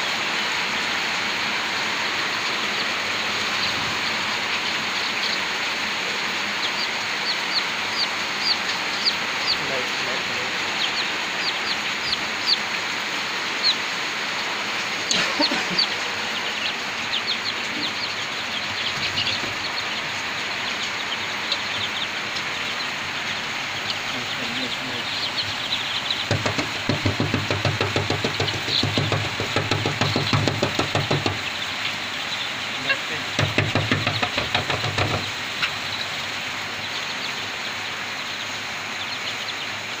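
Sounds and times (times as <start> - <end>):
chicks peeping: 0.0 - 40.0.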